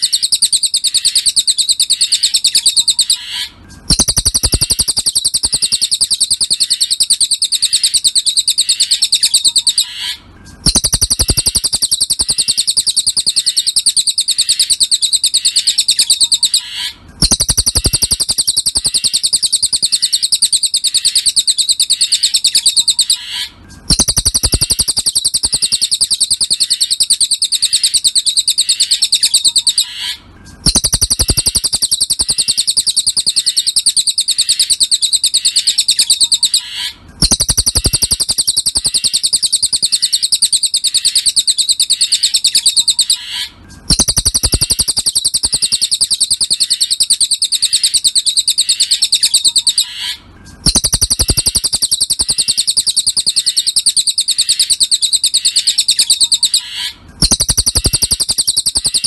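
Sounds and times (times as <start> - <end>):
bird chirping trill: 0.0 - 59.0.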